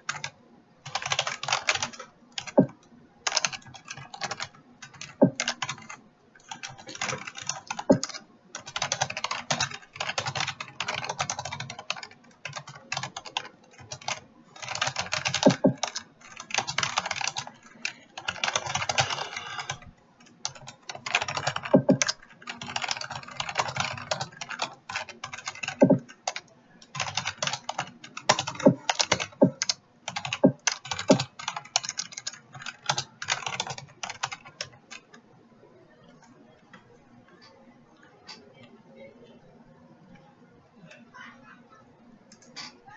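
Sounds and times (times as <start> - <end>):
fast keyboard typing: 0.0 - 35.1.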